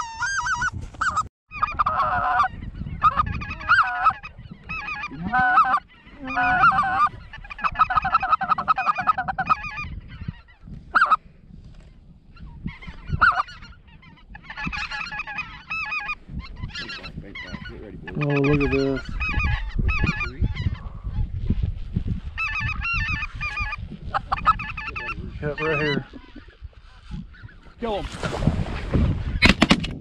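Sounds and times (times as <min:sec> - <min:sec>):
goose calls honking and clucking: 0:00.0 - 0:11.2, 0:12.3 - 0:21.3, 0:22.3 - 0:27.8.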